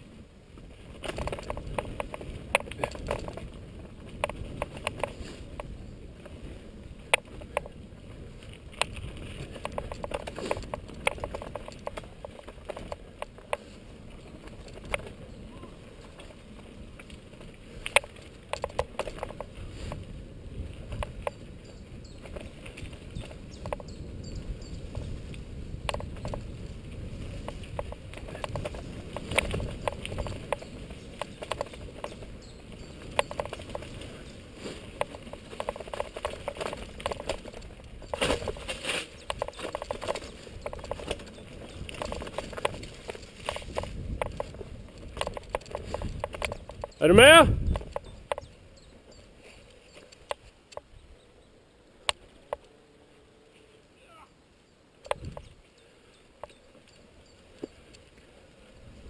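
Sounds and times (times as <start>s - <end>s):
bike tyres rumbling on dirt: 0.0s - 50.2s
bike clicks and rattles: 0.5s - 52.8s, 54.9s - 59.0s.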